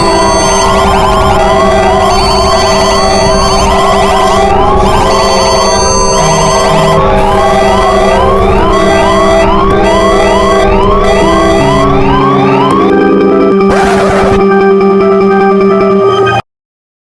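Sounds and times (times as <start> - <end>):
rising alarm sweep: 0.0 - 16.4
steady alarm tones and beeps: 0.0 - 16.4.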